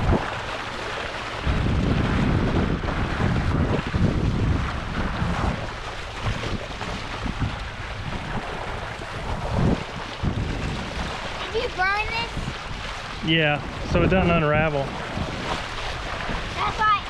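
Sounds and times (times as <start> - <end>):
water washing: 0.0 - 17.0
wind buffeting microphone: 0.0 - 17.0.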